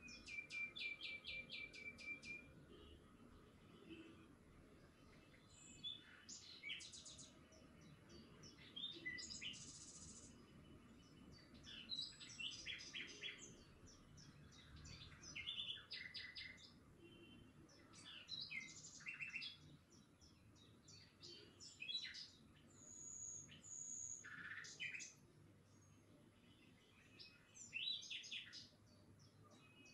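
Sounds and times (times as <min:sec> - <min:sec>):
small birds chirping: 0:00.0 - 0:03.0, 0:03.6 - 0:29.9
faint low background noise: 0:00.0 - 0:29.9.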